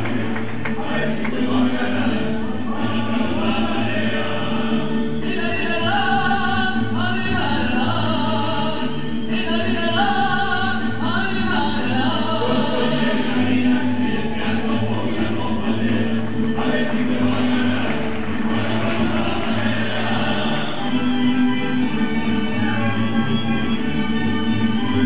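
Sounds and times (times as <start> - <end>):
mariachi violins and guitars: 0.0 - 25.0
musicians singing: 0.0 - 25.0.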